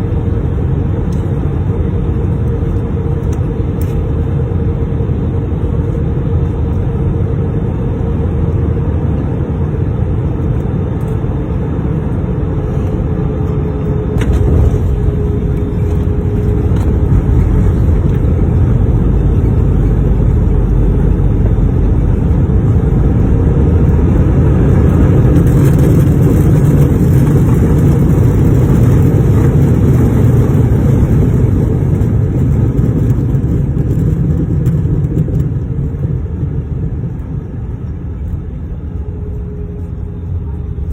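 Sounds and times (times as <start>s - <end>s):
airplane landing rumble: 0.0s - 40.9s.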